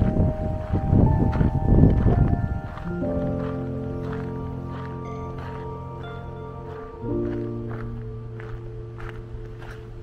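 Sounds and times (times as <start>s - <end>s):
footsteps on cobblestones: 0.0s - 10.0s
held music chord: 0.0s - 10.0s.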